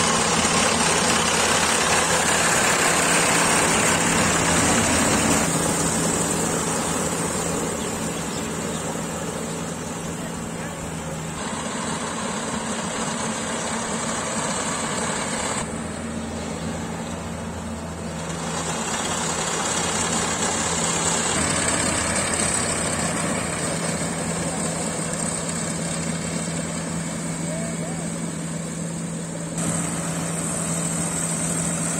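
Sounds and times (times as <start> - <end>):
harvester engine droning: 0.0 - 31.9.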